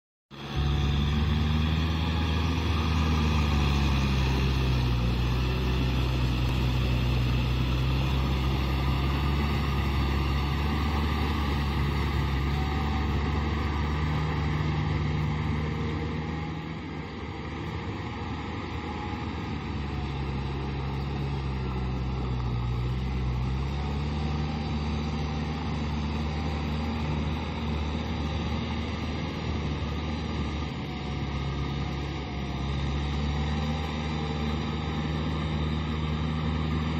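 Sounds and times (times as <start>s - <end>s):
tractor diesel engine running: 0.3s - 36.9s.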